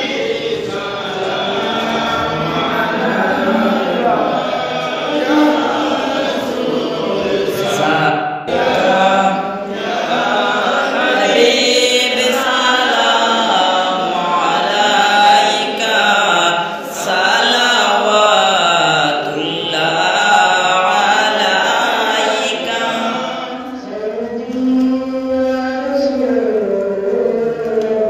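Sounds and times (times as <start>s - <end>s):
man chanting: 1.4s - 9.4s, 11.0s - 28.0s.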